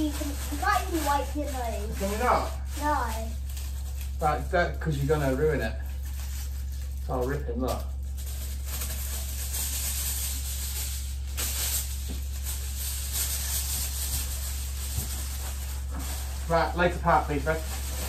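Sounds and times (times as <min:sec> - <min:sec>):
aluminium foil crinkling: 0:00.0 - 0:18.0
steady low hum: 0:00.0 - 0:18.0.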